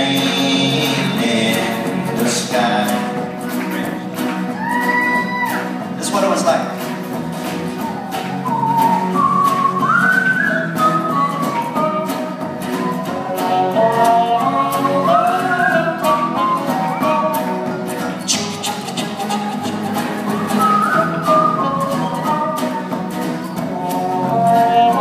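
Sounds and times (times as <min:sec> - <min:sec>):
folk band playing: 0:00.0 - 0:25.0
sliding melodic lead line: 0:00.0 - 0:25.0.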